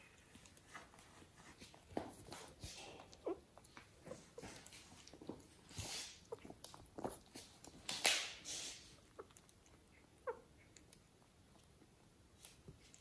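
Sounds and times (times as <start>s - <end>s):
kittens scuffling: 0.0s - 13.0s.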